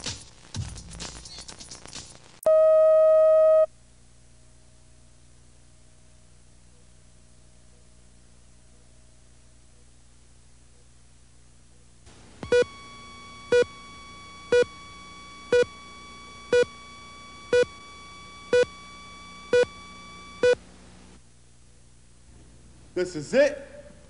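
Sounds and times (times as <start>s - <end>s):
faint steady tone: 2.5s - 22.0s.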